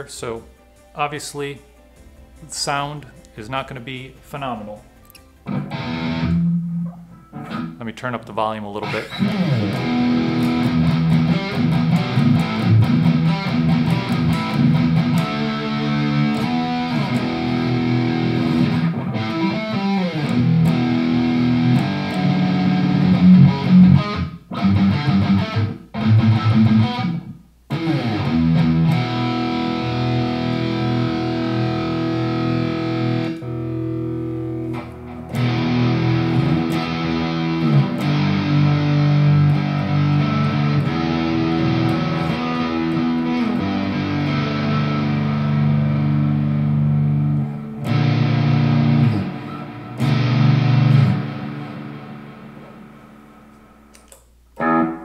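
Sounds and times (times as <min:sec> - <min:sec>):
electric guitar riffs and chords: 0:04.7 - 0:07.8, 0:08.8 - 0:55.0.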